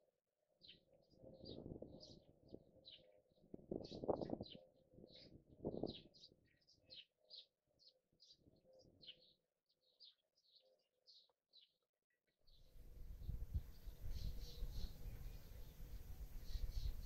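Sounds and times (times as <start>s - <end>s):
songbirds chirping: 0.5s - 17.0s.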